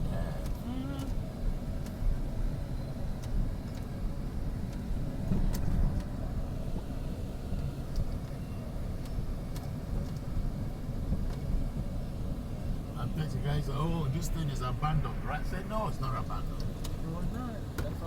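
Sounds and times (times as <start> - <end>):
elevated train rumbling: 0.0 - 18.0.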